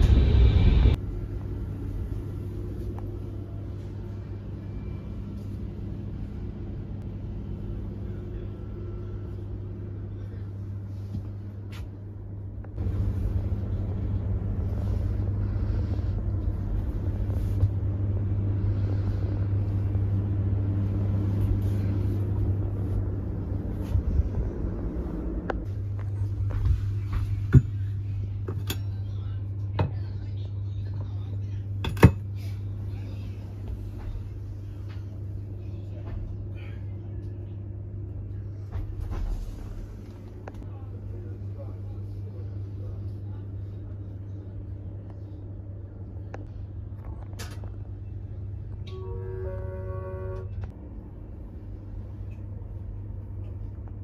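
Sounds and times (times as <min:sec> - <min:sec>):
train carriage rumble and hum: 0:00.0 - 0:54.0.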